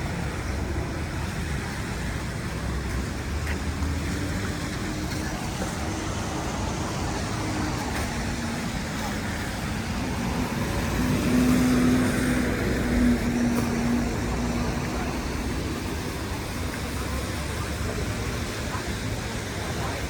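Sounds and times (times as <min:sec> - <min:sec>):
street traffic: 0:00.0 - 0:20.0
vehicle engine hum passing close: 0:00.0 - 0:20.0.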